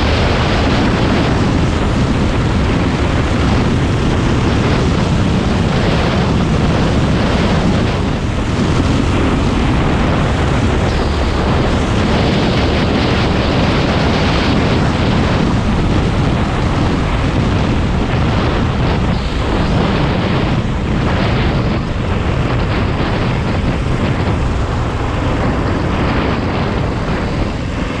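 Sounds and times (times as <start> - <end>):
kart engine running hard: 0.0 - 28.0.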